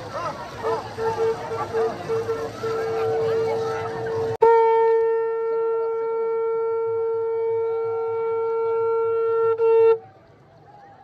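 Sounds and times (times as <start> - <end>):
conch shell blown: 0.6 - 10.0.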